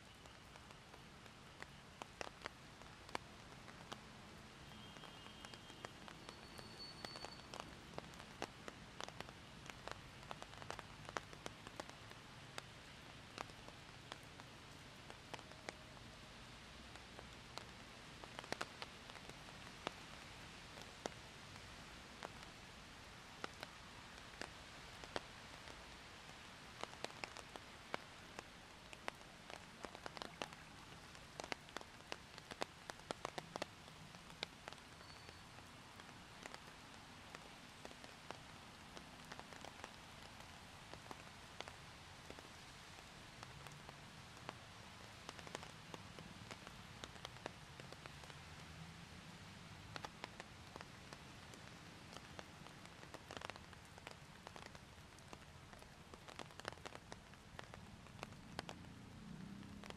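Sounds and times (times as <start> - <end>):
rain hiss: 0.0 - 59.9
raindrops ticking: 0.0 - 59.9.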